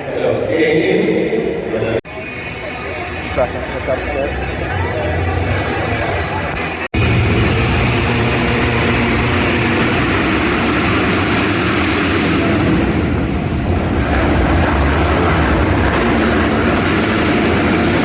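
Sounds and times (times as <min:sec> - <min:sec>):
dirt bike engines droning: 0:00.0 - 0:18.0.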